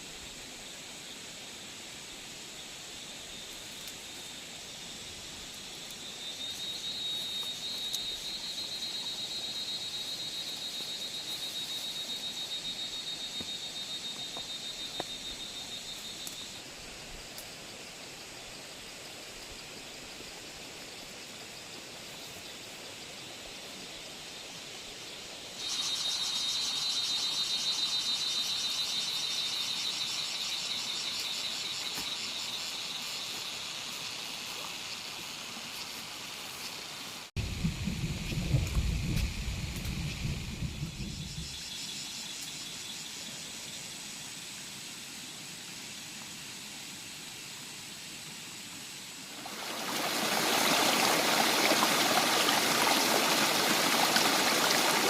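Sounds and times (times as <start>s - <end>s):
faint hiss: 0.0s - 55.0s
insects trilling: 0.0s - 55.0s.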